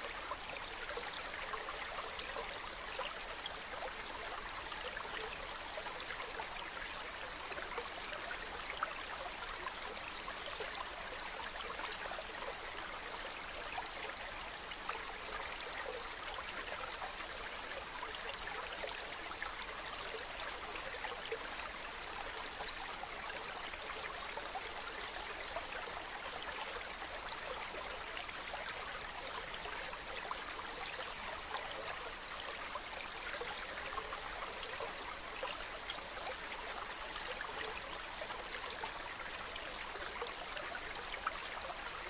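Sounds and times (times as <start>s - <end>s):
stream flowing over rocks: 0.0s - 42.0s.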